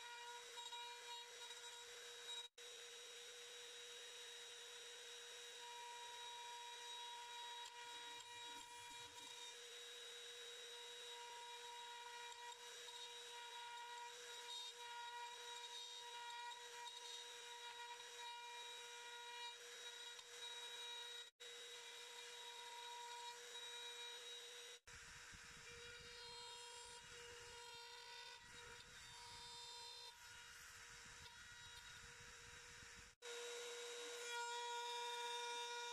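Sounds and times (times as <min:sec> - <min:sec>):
router high-pitched whine: 0:00.0 - 0:35.9.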